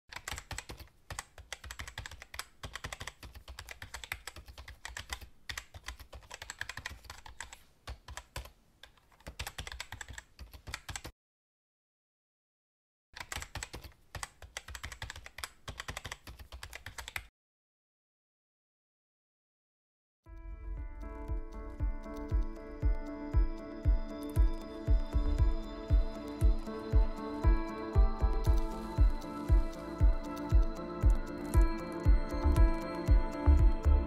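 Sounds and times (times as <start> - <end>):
rapid keyboard typing: 0.1 - 11.1, 13.2 - 17.3, 21.0 - 34.0.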